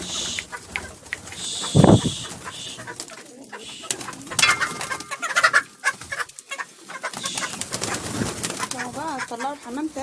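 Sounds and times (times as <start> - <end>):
hens clucking: 0.0 - 10.0
pigeons cooing: 0.0 - 10.0.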